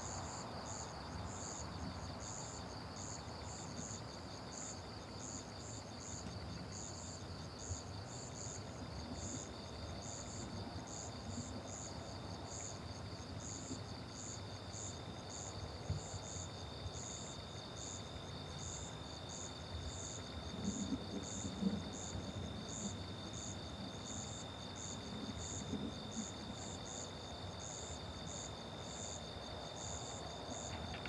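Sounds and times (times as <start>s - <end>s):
crickets and insects trilling: 0.0s - 31.0s.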